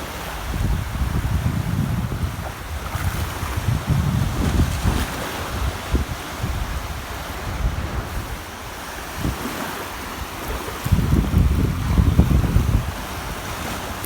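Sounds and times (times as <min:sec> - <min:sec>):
ocean waves washing on shore: 0:00.0 - 0:14.0.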